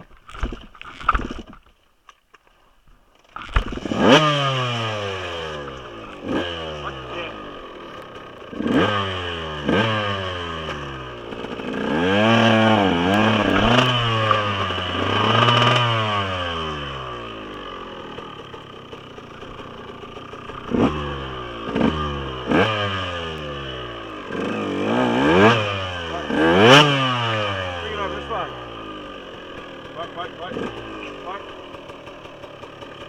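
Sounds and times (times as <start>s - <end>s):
dirt bike engine revving: 3.3s - 33.0s.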